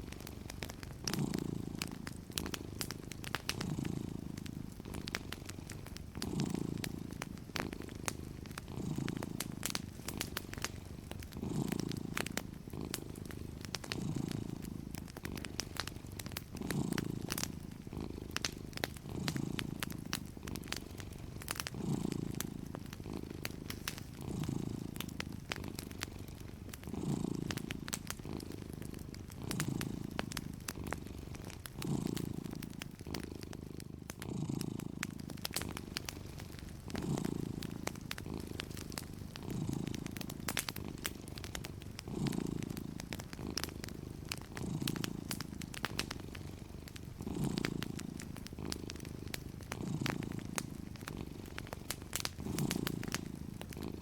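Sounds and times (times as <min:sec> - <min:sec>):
cat purring: 0:00.0 - 0:54.0
wood fire crackling and popping: 0:00.0 - 0:54.0.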